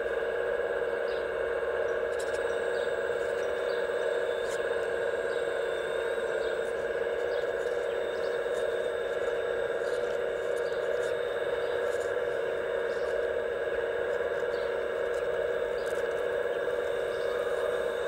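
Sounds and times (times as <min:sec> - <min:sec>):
hydraulic pump whine: 0:00.0 - 0:18.0.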